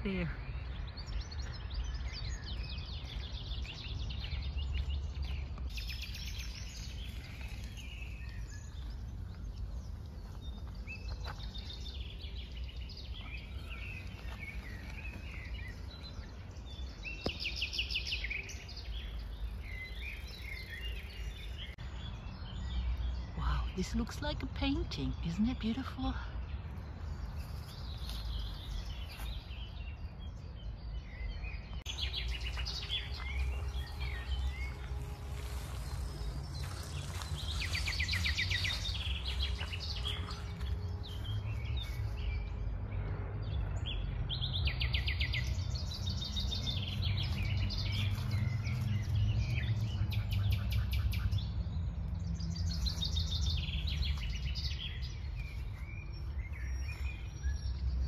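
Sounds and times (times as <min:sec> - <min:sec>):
distant city rumble: 0:00.0 - 0:58.0
songbirds trilling: 0:00.0 - 0:58.0.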